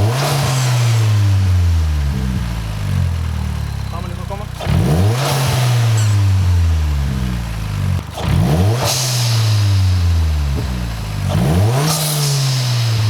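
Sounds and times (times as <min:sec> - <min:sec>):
turbocharged car engine revving: 0:00.0 - 0:13.0.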